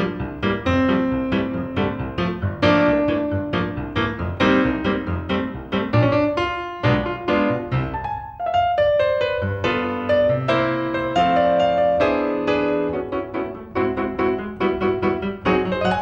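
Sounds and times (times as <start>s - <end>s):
lively solo piano music: 0.0s - 16.0s.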